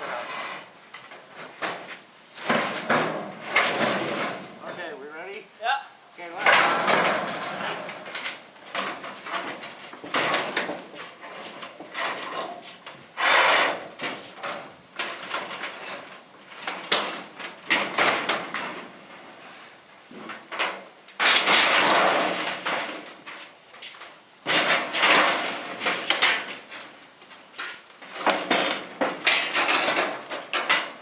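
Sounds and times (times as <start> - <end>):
steel arch scraping and rattling: 0.0 - 5.4, 6.3 - 23.2, 24.4 - 27.0, 27.6 - 31.0.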